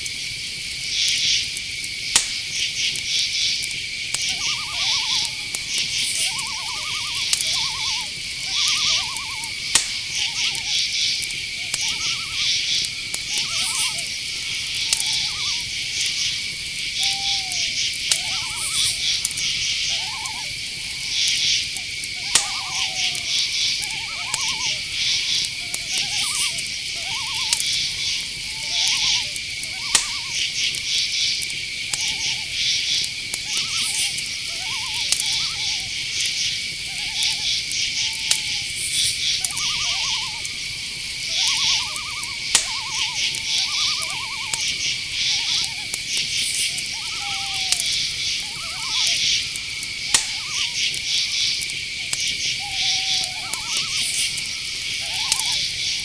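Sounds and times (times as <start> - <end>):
crickets trilling: 0.0 - 56.0
sharp clicks: 2.1 - 56.0
owl calls: 3.4 - 56.0.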